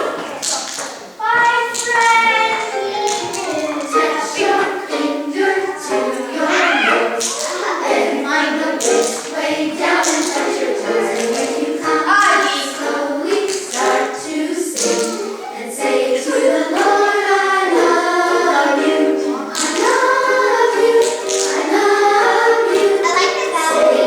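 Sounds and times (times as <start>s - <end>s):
choir singing over music: 1.7s - 24.0s.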